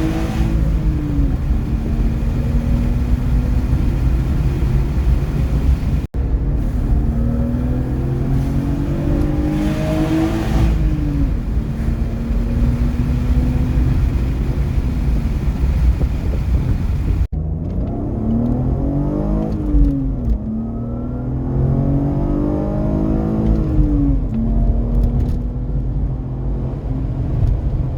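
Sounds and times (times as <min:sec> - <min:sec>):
car engine accelerating hard: 0:00.0 - 0:27.9.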